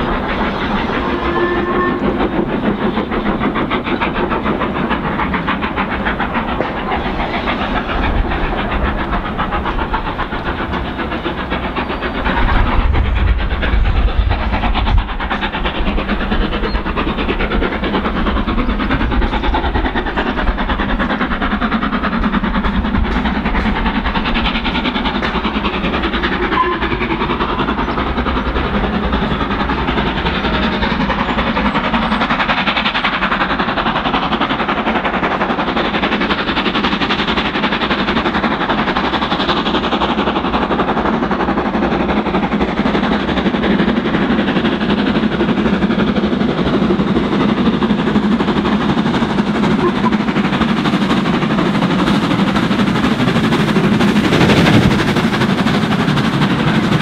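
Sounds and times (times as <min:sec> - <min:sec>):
steam locomotive exhaust beats: 0:00.0 - 0:57.0
train running noise: 0:00.0 - 0:57.0.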